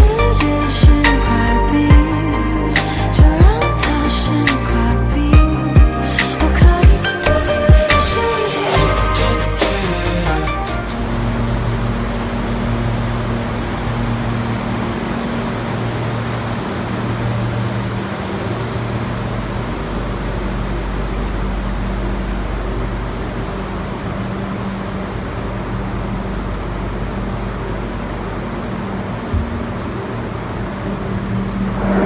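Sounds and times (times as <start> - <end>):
machinery fans rushing: 0.0 - 32.0.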